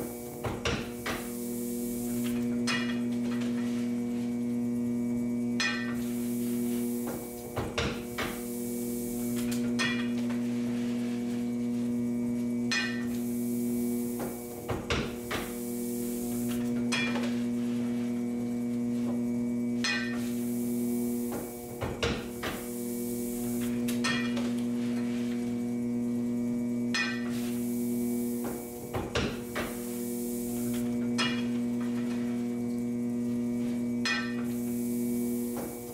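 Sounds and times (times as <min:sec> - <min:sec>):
steady electric hum: 0:00.0 - 0:35.9.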